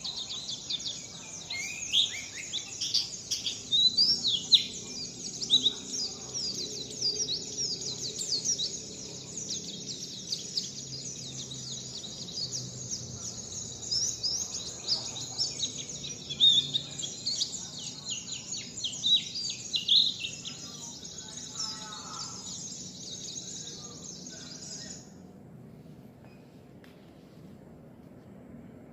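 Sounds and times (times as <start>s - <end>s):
songbird singing: 0.0s - 25.4s.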